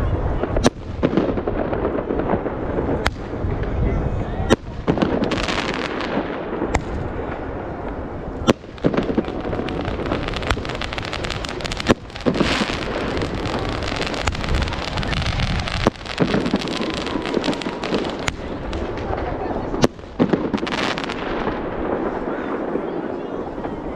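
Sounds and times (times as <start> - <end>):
fireworks bangs: 0.0 - 23.9
fireworks crackling: 0.0 - 23.9.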